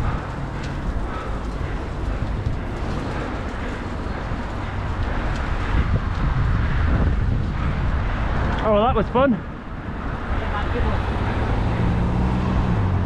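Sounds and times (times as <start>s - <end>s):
tyres hissing on paved path: 0.0s - 12.8s
street traffic: 0.0s - 13.0s
wind buffeting microphone: 0.0s - 13.0s.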